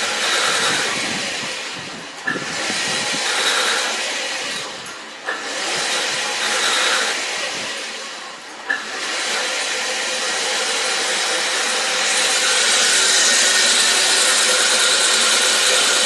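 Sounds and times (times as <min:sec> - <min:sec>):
loud hissing machine noise: 0:00.0 - 0:16.0.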